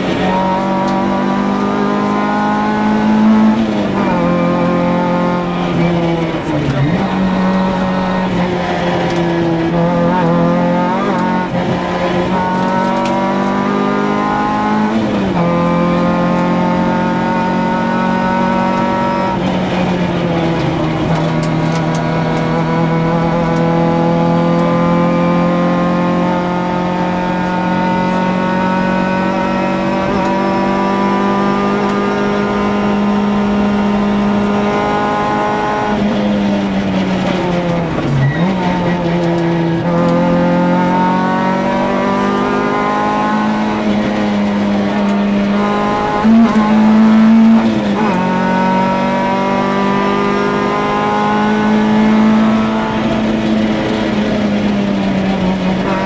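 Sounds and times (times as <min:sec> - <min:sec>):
rally car engine at full throttle: 0:00.0 - 0:56.0.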